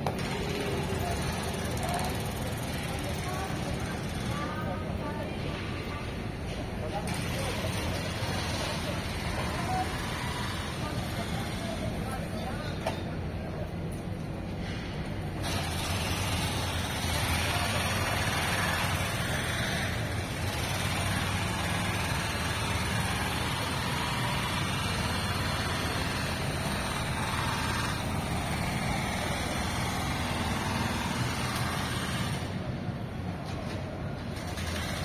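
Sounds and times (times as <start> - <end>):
street traffic hum: 0.0 - 35.0
vehicles passing: 0.0 - 35.0.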